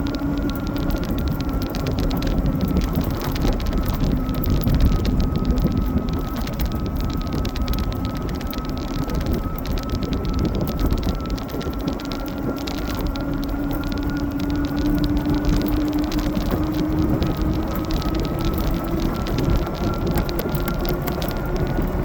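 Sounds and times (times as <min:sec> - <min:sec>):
faint electric motor whine: 0:00.0 - 0:22.0
tyres crackling over wet ground: 0:00.0 - 0:22.0
wind rushing over microphone: 0:00.0 - 0:22.0.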